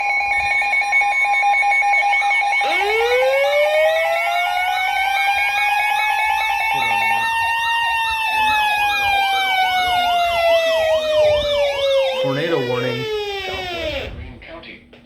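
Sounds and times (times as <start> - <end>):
warning siren winding up: 0.0 - 14.2
fast warbling alarm tone: 0.0 - 14.3.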